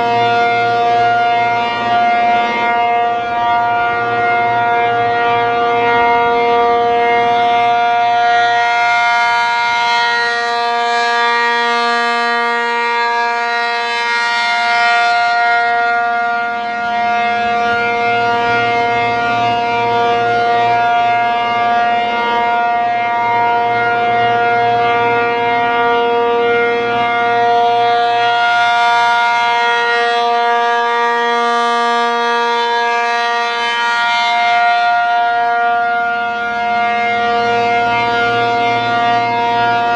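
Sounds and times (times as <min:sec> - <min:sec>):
warning siren steady chord: 0:00.0 - 0:39.9.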